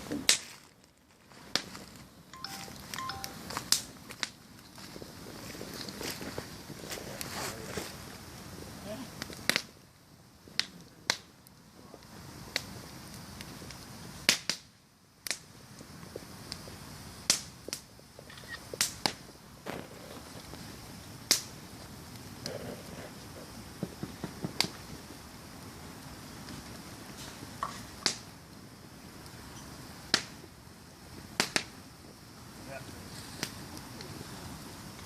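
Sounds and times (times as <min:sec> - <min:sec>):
campfire crackling and popping: 0:00.0 - 0:35.0
quiet steady hiss: 0:00.0 - 0:35.0.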